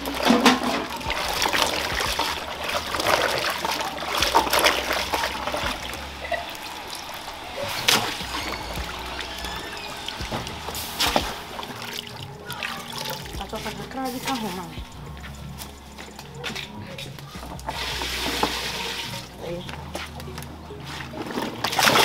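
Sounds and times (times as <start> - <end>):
water splashing in a basin: 0.0 - 20.2, 20.8 - 22.0
water trickling: 0.0 - 22.0.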